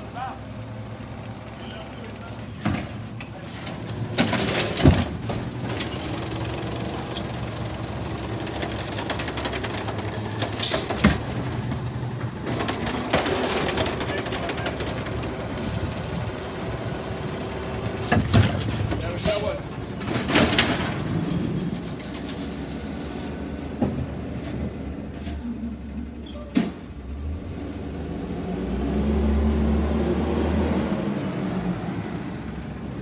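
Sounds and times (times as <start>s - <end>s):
garbage truck engine running: 0.0s - 28.5s.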